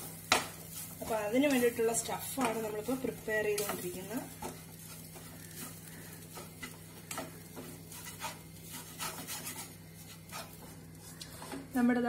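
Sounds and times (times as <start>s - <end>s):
spatula scraping frying pan: 0.0s - 11.8s
steady low hum: 0.0s - 12.0s.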